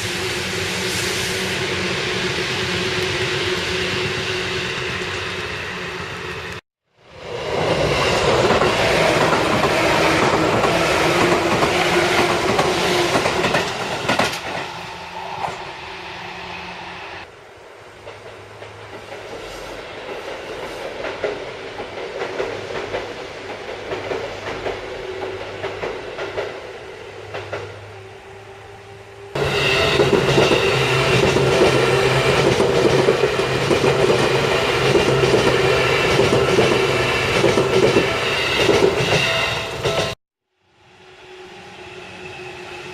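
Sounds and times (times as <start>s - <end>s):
electric train running on track: 0.0s - 42.9s.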